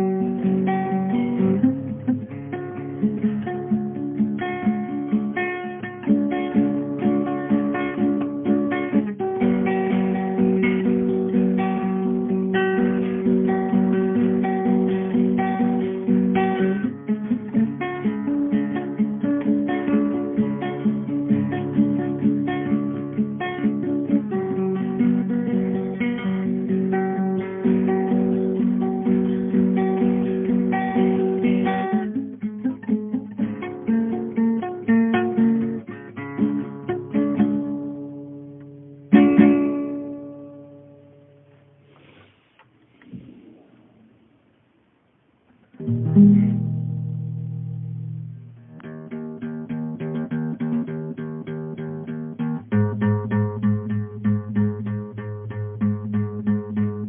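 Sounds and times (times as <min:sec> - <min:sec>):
acoustic guitar strumming: 0:00.0 - 0:44.1, 0:45.6 - 0:57.0.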